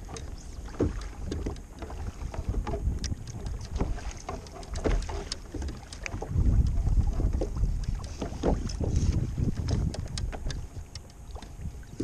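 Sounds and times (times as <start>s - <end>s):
small knocks and splashes: 0.0s - 12.0s
water lapping against hull: 0.0s - 12.0s
wind buffeting microphone: 0.0s - 12.0s.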